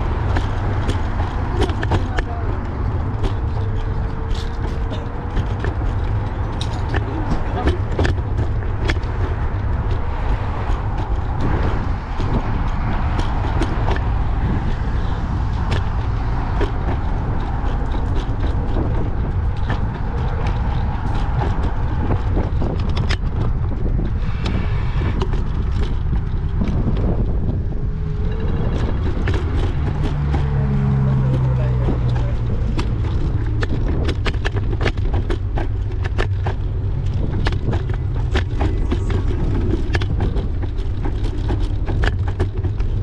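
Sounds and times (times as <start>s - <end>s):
street traffic: 0.0s - 43.0s
wind and road noise: 0.0s - 43.0s.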